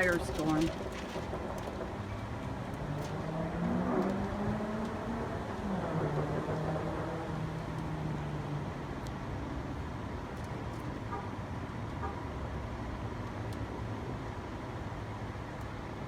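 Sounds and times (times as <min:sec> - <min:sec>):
steady traffic noise: 0:00.0 - 0:16.0.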